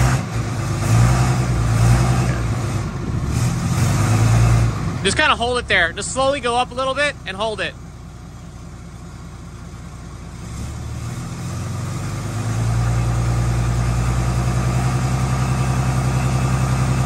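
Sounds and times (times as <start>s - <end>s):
diesel engine revving up: 0.0s - 7.8s, 10.2s - 17.0s.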